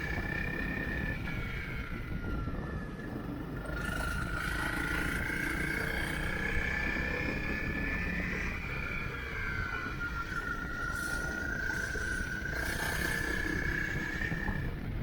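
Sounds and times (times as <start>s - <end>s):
motorcycle engine whine: 0.0s - 15.0s
wind and road rumble: 0.0s - 15.0s.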